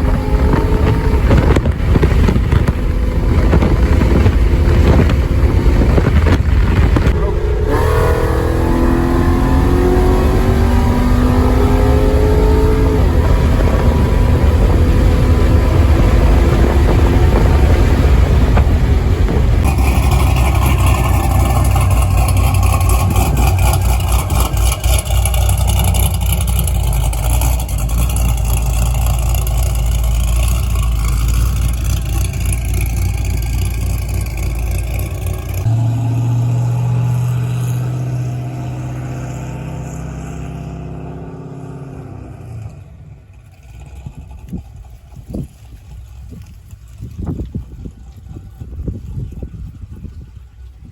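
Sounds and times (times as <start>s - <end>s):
car engine revving: 0.0s - 45.0s
deep engine exhaust note: 0.0s - 45.5s.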